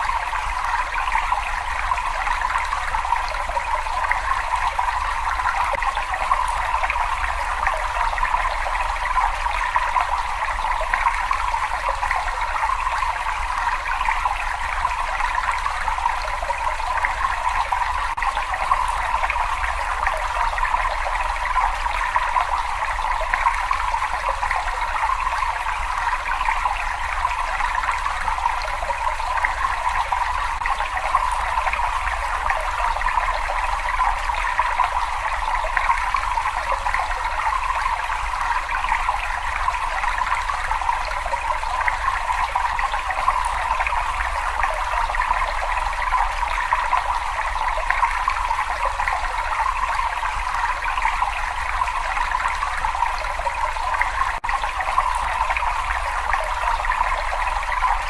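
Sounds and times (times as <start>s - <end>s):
water running in a cave: 0.0s - 58.0s.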